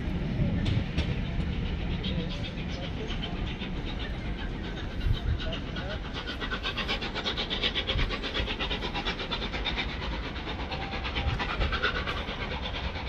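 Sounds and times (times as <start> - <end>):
steam locomotive exhaust beating: 0.0 - 13.0.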